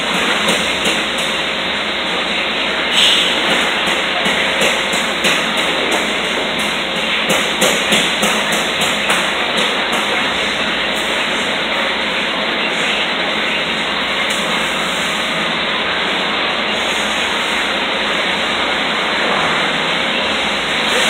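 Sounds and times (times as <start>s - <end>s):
metal shop hiss and rumble: 0.0s - 21.0s.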